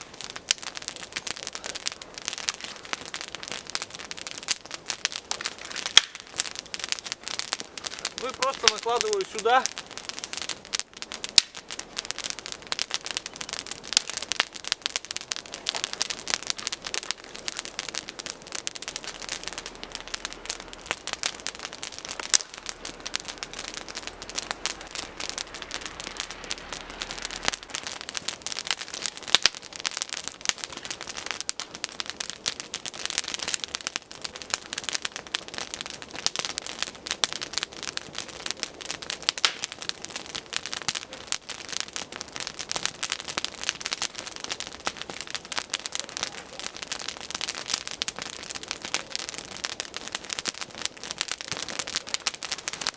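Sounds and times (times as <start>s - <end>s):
twigs crackling and snapping: 0.0s - 52.9s.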